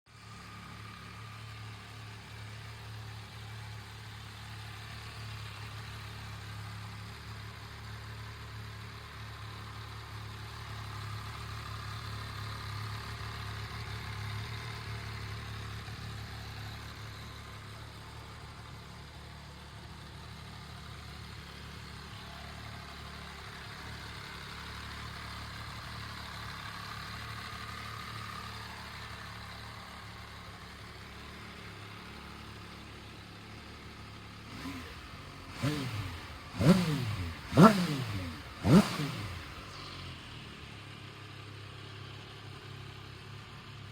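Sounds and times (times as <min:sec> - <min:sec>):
motorcycle engine idling: 0:00.1 - 0:43.9.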